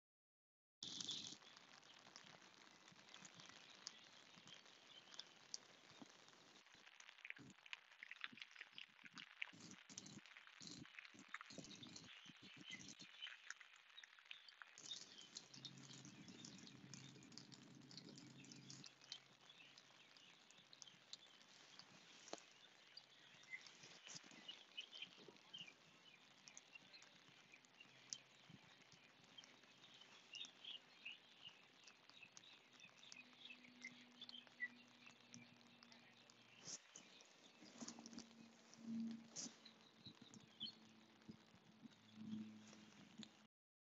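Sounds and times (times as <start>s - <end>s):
light ticks and chirps: 0.8s - 43.5s.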